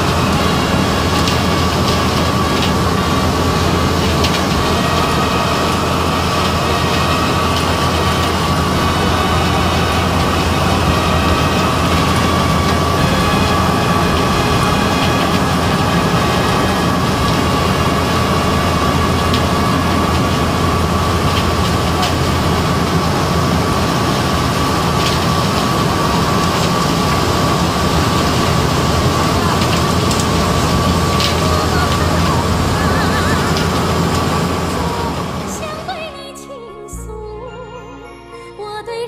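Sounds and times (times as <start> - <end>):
plant machinery running: 0.0 - 36.4.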